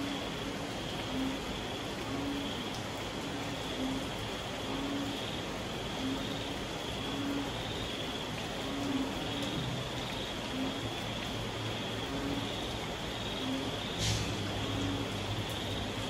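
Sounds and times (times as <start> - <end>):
insect chorus: 0.0 - 16.0
rain falling: 0.0 - 16.0
frog calling: 1.0 - 2.7, 3.6 - 16.0.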